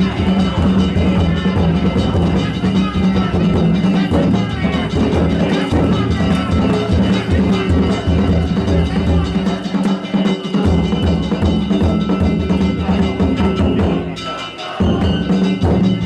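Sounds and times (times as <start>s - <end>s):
hand gongs ringing: 0.0s - 16.0s
taiko drums beating: 0.0s - 16.0s.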